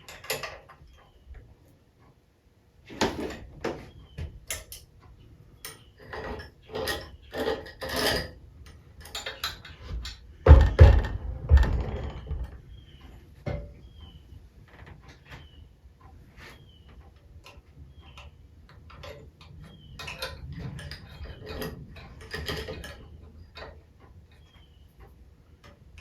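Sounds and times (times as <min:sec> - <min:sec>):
metal parts and hand tools clicking: 0:00.0 - 0:01.8, 0:02.9 - 0:26.0.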